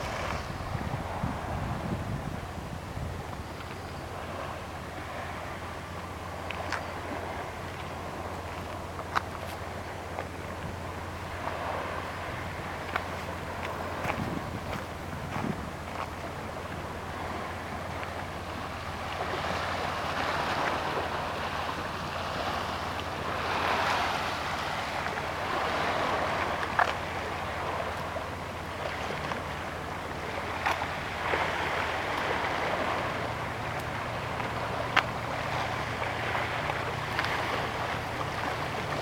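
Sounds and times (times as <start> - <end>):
low steady hum: 0.0 - 39.0
waves washing against seawall: 0.0 - 39.0
wind: 0.0 - 39.0.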